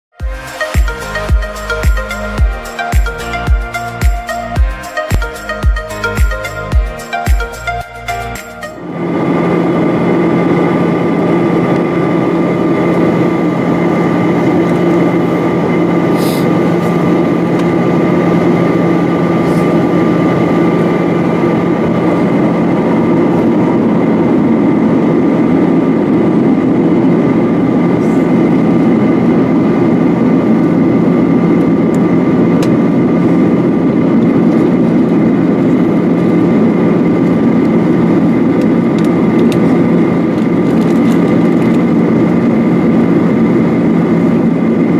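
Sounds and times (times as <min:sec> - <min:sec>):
airplane cabin engine hum: 0:00.1 - 0:44.9
rushing airflow: 0:00.3 - 0:44.9.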